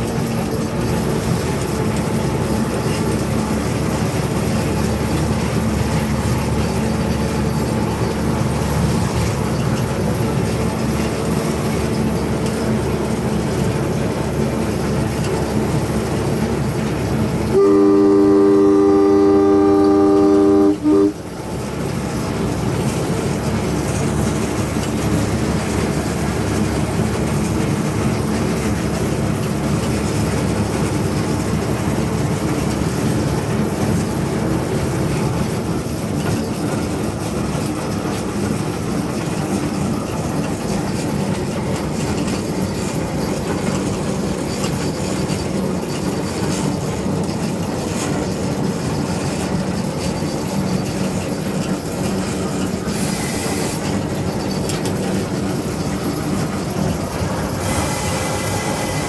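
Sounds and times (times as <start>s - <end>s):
locomotive engine drone: 0.0s - 59.0s
train running on track: 0.0s - 59.0s.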